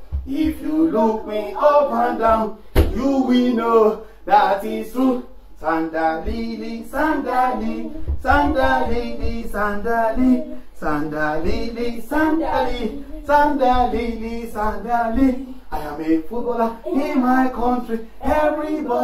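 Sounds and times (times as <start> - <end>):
man and children chanting: 0.1 - 19.0.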